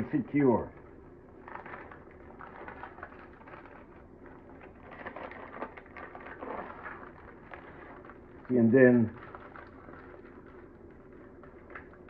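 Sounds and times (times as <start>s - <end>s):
baking paper crinkling: 0.8s - 12.0s.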